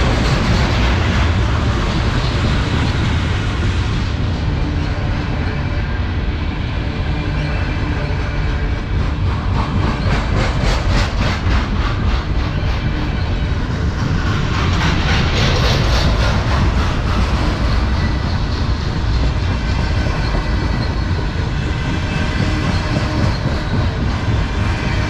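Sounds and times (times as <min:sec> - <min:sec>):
freight train rolling by: 0:00.0 - 0:25.0
wheels clickety-clack over rail joints: 0:00.0 - 0:25.0.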